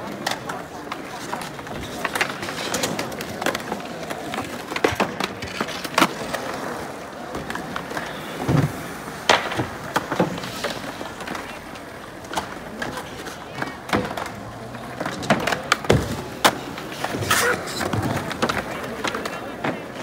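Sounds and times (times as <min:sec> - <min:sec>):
skateboards clacking: 0:00.0 - 0:20.0
skateboards rolling: 0:00.0 - 0:20.0.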